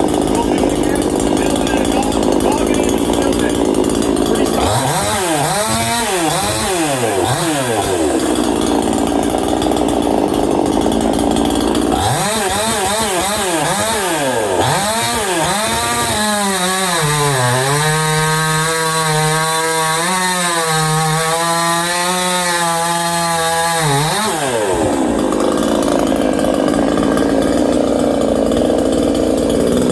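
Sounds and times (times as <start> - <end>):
chainsaw revving: 0.0 - 29.9.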